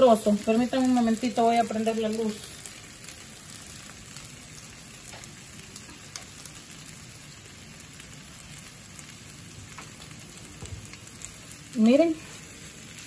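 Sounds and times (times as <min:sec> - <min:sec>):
faint crackles: 0:00.0 - 0:13.0
food sizzling in a frying pan: 0:00.0 - 0:13.0.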